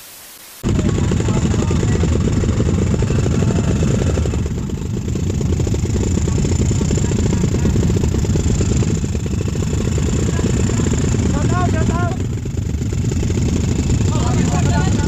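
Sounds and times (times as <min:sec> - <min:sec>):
dirt bike engines running: 0:00.6 - 0:15.0.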